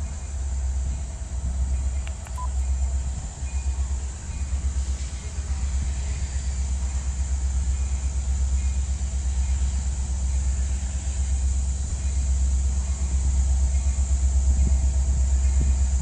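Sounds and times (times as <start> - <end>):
diesel locomotive rumble: 0.0 - 16.0.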